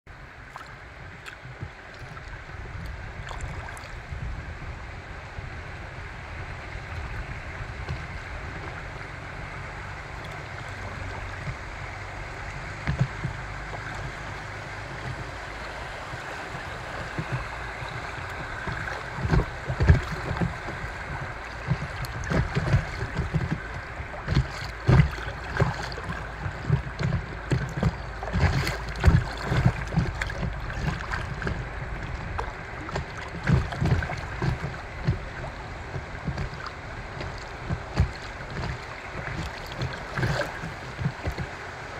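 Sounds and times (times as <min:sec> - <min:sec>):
low thuds and buffeting: 0:00.1 - 0:41.9
river current rushing: 0:00.1 - 0:41.9.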